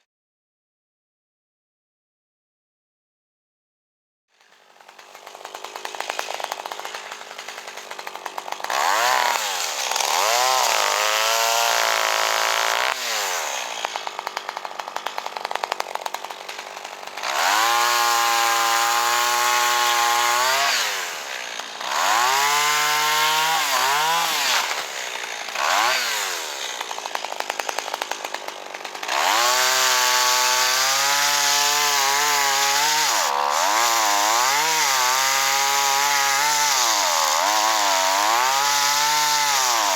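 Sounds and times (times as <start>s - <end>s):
chainsaw revving and cutting: 4.3s - 39.9s.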